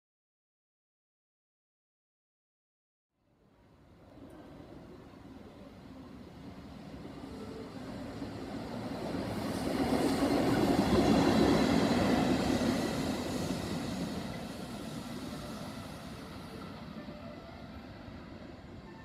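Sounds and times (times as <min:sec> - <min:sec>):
electric locomotive passing: 0:03.4 - 0:19.0.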